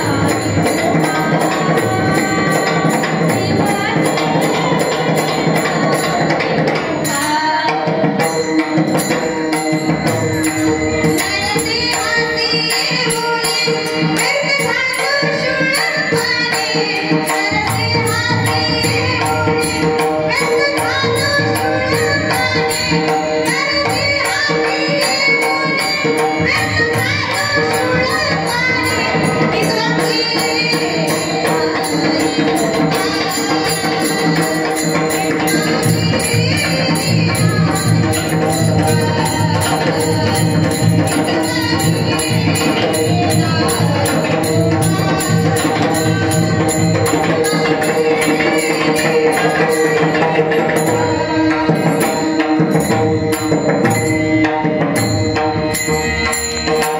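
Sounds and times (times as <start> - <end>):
devotional singing: 0.0 - 55.4
jingling percussion beat: 0.0 - 56.9.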